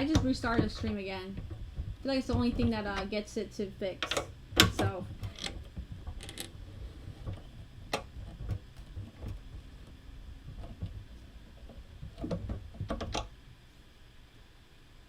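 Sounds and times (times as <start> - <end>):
rumble of things being moved: 0.0 - 14.2.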